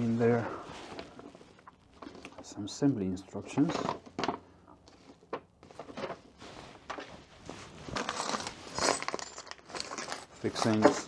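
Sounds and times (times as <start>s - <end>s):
packaging rustling and crinkling: 0.2s - 2.5s, 3.5s - 11.0s.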